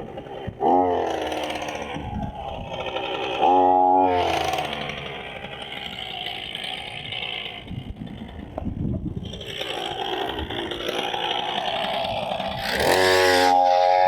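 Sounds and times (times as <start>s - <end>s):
two-stroke engine speeding up: 0.0s - 14.0s.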